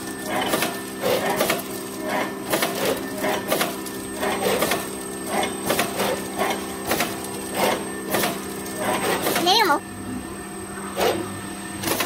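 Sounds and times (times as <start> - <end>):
mechanical clacks: 0.0 - 9.8, 11.8 - 12.0
machine motor hum: 0.0 - 12.0.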